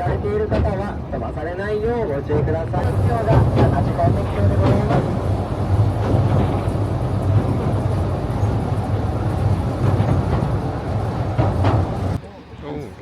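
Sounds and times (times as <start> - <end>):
rail cart rumbling on track: 0.0 - 13.0.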